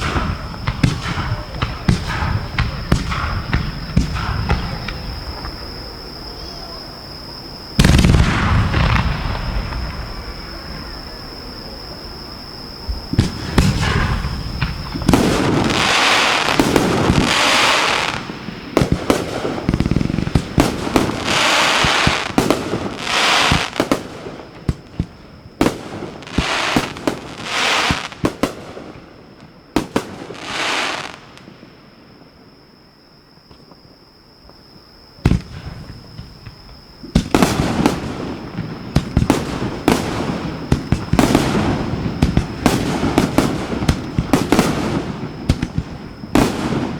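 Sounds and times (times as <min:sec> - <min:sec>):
fireworks bangs: 0:00.0 - 0:31.7, 0:35.2 - 0:46.9
fireworks hissing and crackling: 0:00.0 - 0:32.2, 0:35.2 - 0:46.9.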